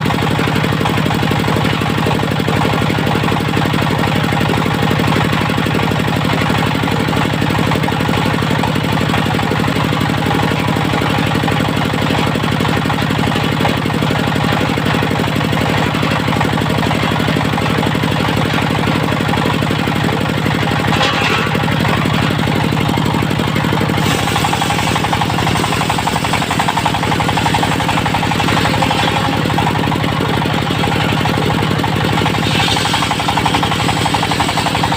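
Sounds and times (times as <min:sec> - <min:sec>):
diesel engine knocking: 0:00.0 - 0:34.9.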